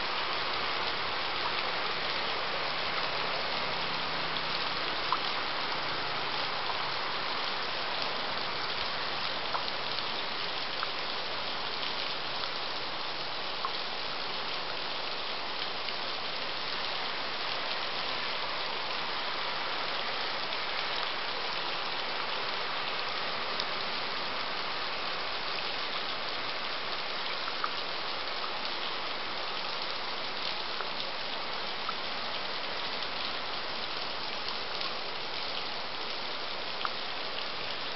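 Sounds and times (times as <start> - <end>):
heavy rain: 0.0 - 37.9.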